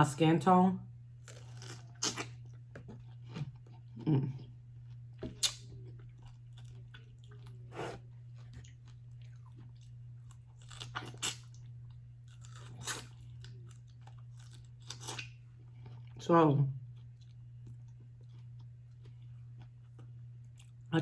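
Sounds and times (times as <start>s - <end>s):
steady low hum: 0.0s - 21.0s
person chewing and crunching food: 1.1s - 16.2s, 16.8s - 21.0s.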